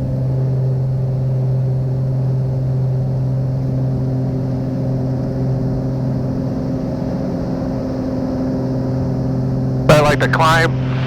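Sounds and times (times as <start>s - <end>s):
airplane engine and propeller: 0.0s - 11.0s.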